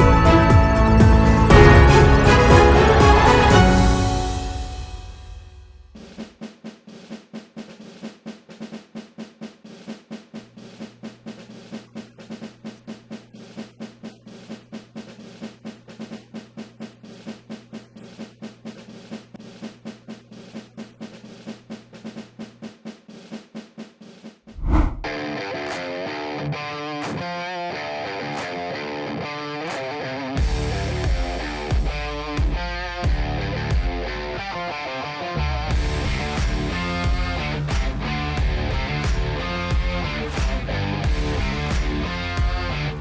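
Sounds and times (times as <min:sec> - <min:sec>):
snare drum beat: 0:00.0 - 0:25.0, 0:30.4 - 0:34.1, 0:35.7 - 0:42.9.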